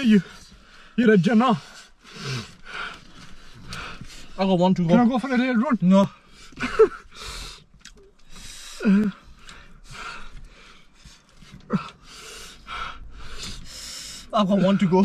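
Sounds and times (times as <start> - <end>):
person breathing hard: 0.2 - 4.4, 6.2 - 15.0.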